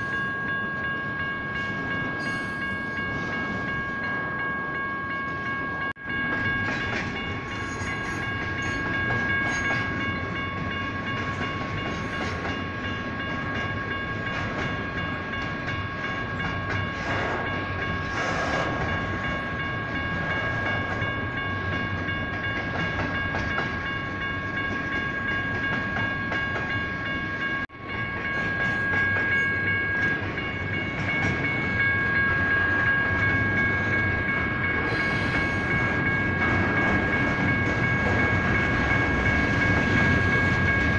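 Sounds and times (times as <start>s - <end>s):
crossing warning bells: 0.0s - 40.9s
train rumbling and clattering: 0.0s - 40.9s.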